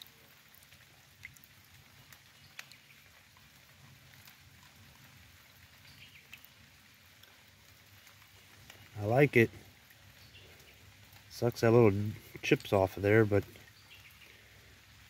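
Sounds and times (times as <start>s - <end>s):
light rain hiss: 0.0s - 15.0s
raindrops ticking: 0.0s - 15.0s.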